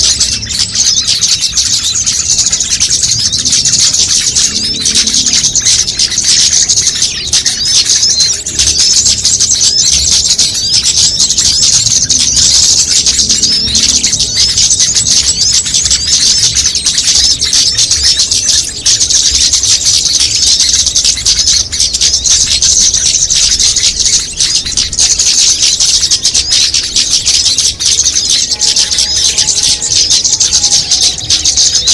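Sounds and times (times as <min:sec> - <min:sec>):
small songbirds chirping: 0:00.0 - 0:31.9.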